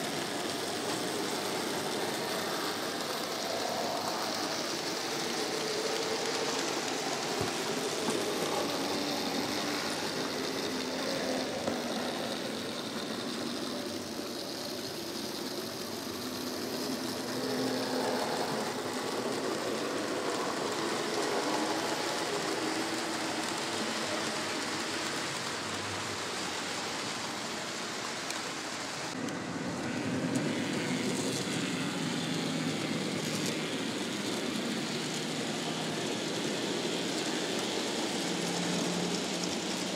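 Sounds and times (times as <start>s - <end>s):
small electric motors humming: 0.0s - 39.9s
wheels rumbling on track: 0.0s - 39.9s.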